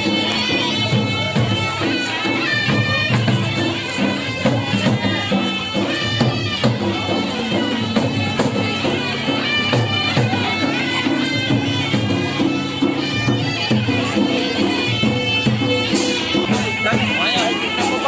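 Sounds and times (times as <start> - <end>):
reedy wind instrument melody: 0.0 - 18.0
steady drumbeats: 0.0 - 18.0.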